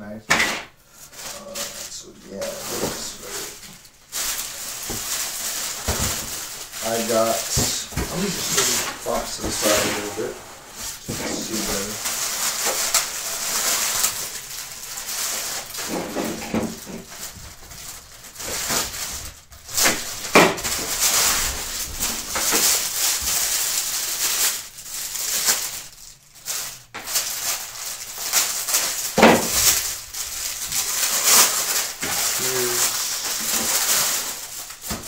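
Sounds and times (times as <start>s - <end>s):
plastic packaging crinkling: 0.9s - 35.0s.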